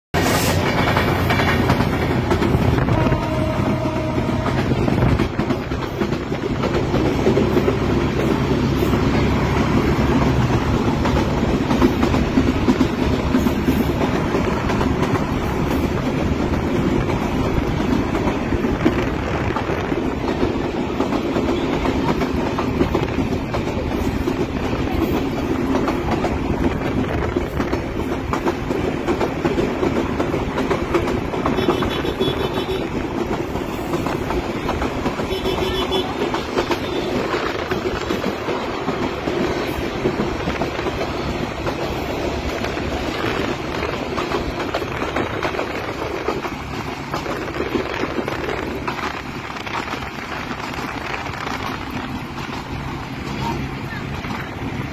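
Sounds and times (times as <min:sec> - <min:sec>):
passenger train running: 0:00.1 - 0:54.9
auto-rickshaw running: 0:00.6 - 0:54.9.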